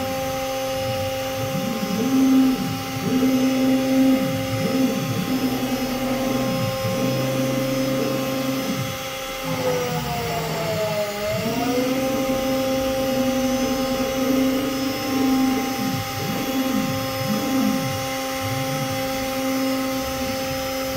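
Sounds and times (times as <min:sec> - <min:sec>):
router spindle motor whine: 0:00.0 - 0:20.9.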